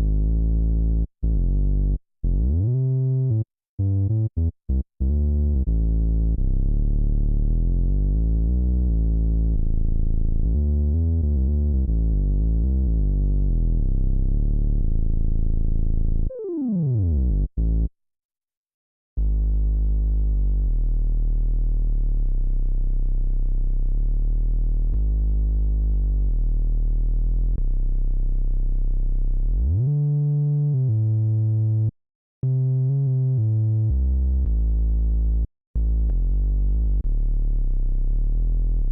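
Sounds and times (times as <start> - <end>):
synthesizer chords over deep bass: 0.0 - 17.9, 19.2 - 38.9.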